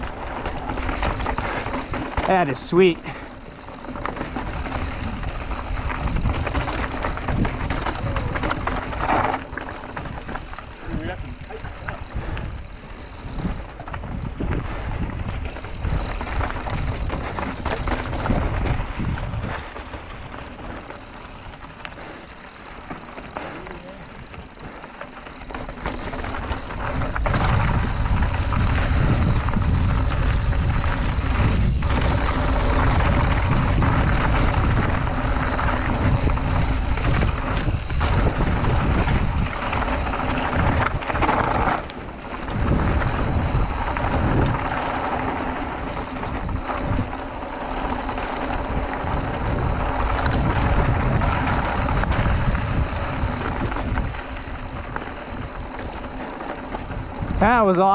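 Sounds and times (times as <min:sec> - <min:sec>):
bike rattling over rock: 0:00.0 - 0:57.9
wind noise on microphone: 0:00.0 - 0:57.9.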